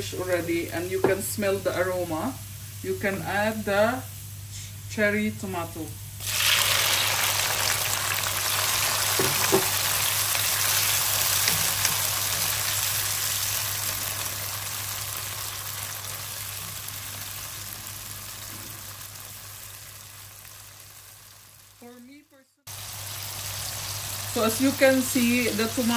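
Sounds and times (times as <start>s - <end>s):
tomatoes sizzling in oil: 0.0s - 4.9s, 6.1s - 25.9s.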